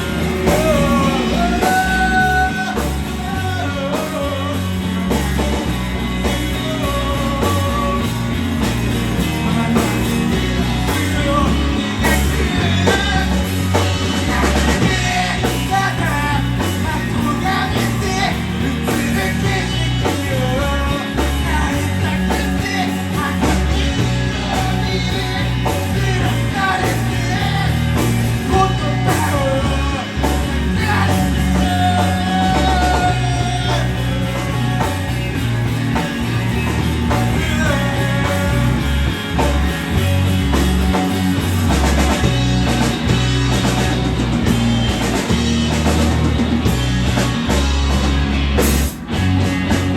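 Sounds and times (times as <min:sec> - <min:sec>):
person singing: 0:00.0 - 0:42.8
rock band playing: 0:00.0 - 0:49.9.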